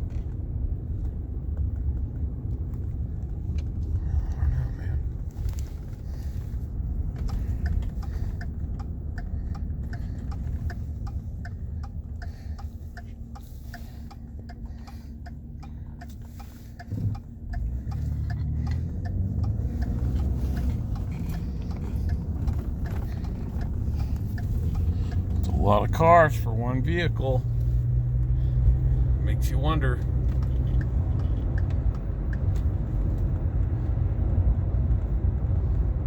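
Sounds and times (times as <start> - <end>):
turn signal clicking: 0.0 - 36.0
vehicle rumble: 0.0 - 36.0.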